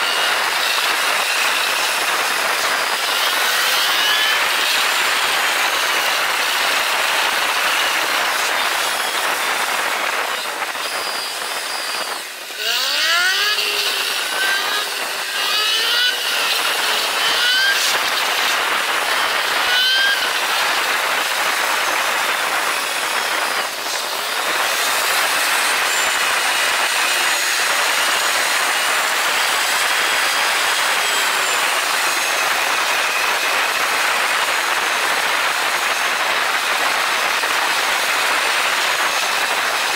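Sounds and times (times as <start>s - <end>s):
motorcycle engine accelerating: 0.0s - 35.5s
wind and road noise: 0.0s - 39.9s.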